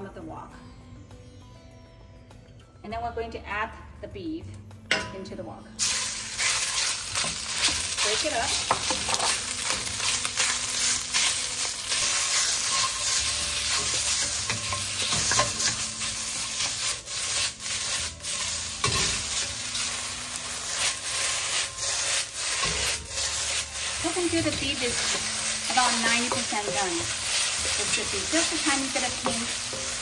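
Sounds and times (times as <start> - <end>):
meat sizzling in hot oil: 5.8 - 30.0
utensil scraping a wok: 5.8 - 30.0.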